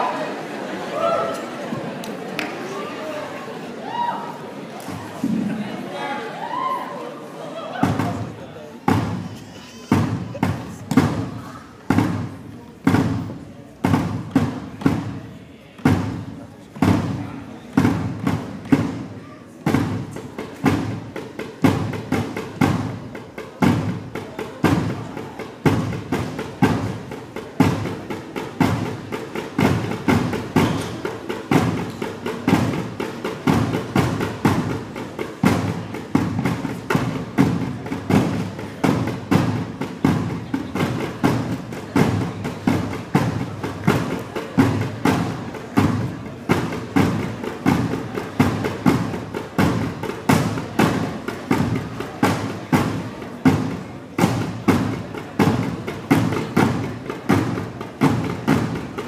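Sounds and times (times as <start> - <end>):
drums in driving rhythm: 7.8 - 59.0.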